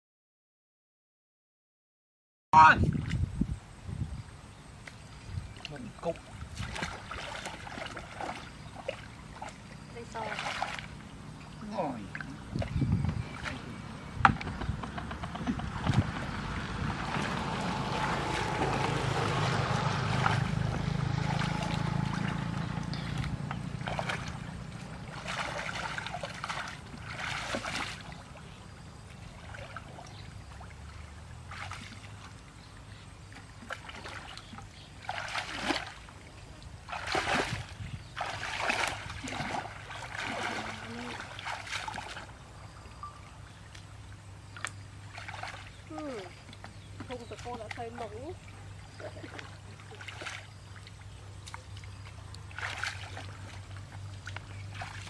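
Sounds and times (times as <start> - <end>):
water sloshing and splashing: 4.8 - 42.9, 43.5 - 55.0.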